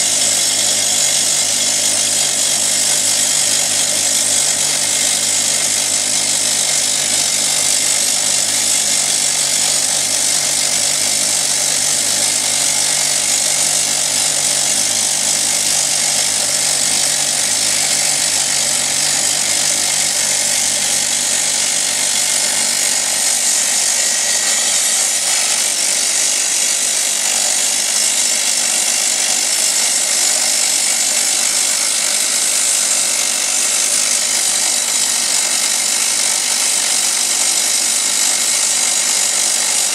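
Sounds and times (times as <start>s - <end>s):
rock drill drilling into granite: 0.0s - 39.9s.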